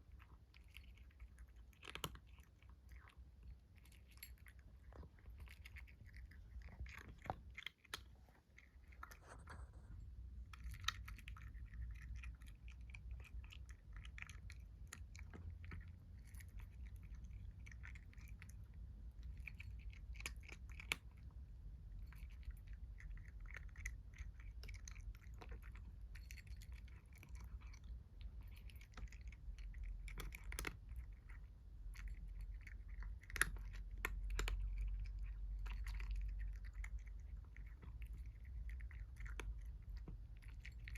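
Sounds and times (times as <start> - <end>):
kitten chewing food: 0.0 - 40.9.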